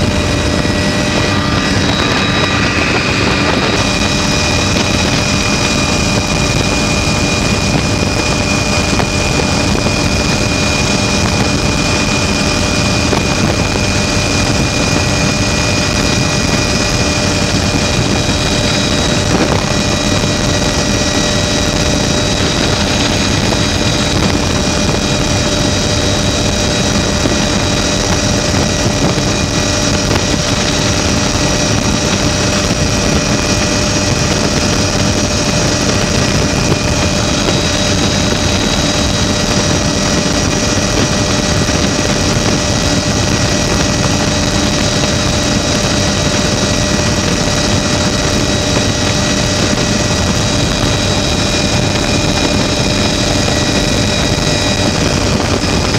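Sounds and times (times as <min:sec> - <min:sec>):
helicopter rotor and engine: 0:00.0 - 0:55.9
high-pitched whines: 0:00.0 - 0:55.9
wind rushing: 0:00.0 - 0:55.9.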